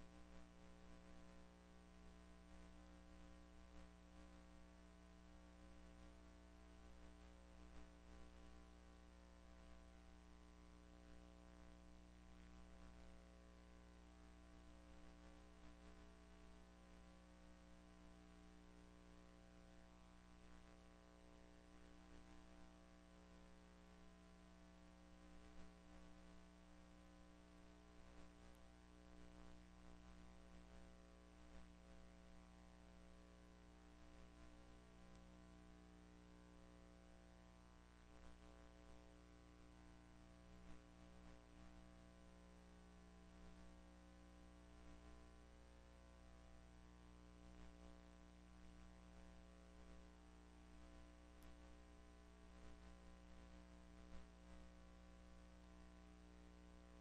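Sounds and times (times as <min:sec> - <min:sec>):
faint electrical hum with hiss: 0:00.0 - 0:57.0.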